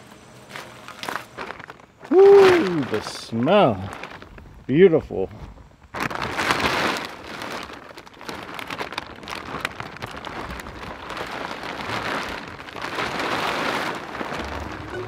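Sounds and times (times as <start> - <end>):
plastic tarp rustling: 0.0 - 15.0.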